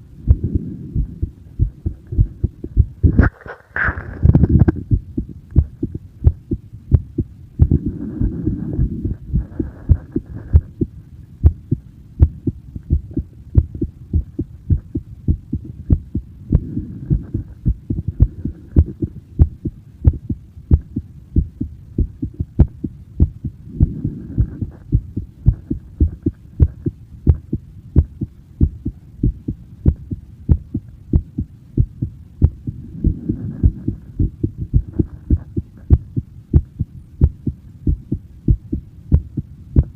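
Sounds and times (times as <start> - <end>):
low rushing noise: 0.0 - 39.9
heartbeat thumps: 0.2 - 3.3, 4.1 - 39.9.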